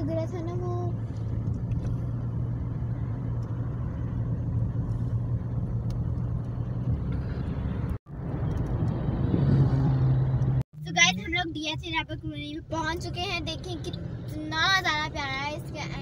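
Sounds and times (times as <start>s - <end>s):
car engine and tyre hum: 0.0s - 16.0s.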